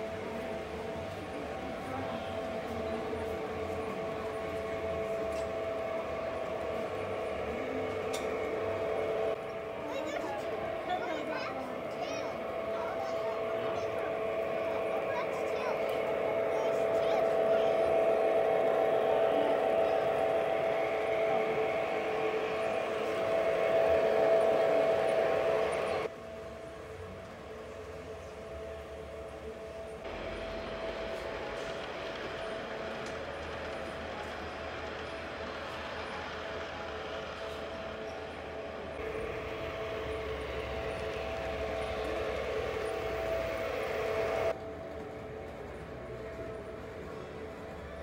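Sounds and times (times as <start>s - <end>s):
model trains whining and rumbling: 0.0s - 48.0s.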